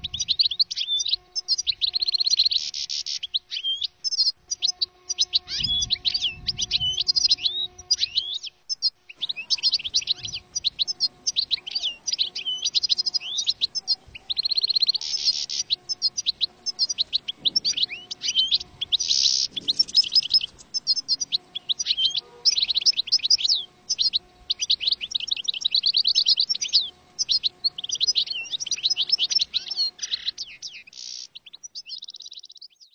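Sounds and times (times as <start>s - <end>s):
goldfinch twittering song: 0.0s - 32.9s.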